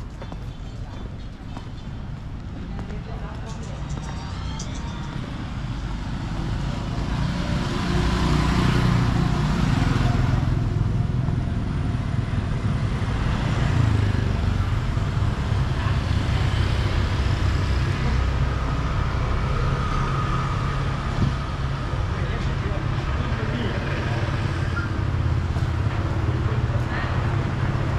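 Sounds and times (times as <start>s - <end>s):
cars and scooters passing: 0.0s - 27.9s
road noise: 0.0s - 27.9s.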